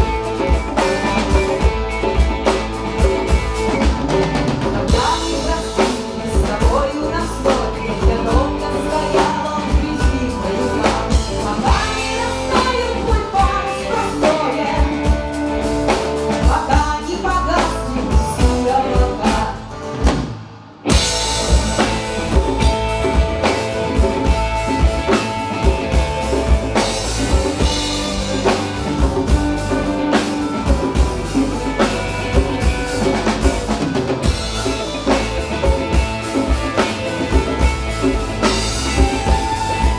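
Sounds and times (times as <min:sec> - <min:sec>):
folk-rock band playing live: 0:00.0 - 0:39.9
steady drum beat: 0:00.0 - 0:39.9.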